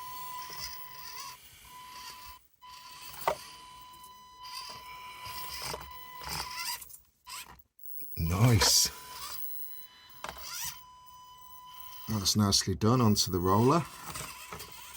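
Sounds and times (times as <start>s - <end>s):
small electric motor whining: 0.0s - 14.9s.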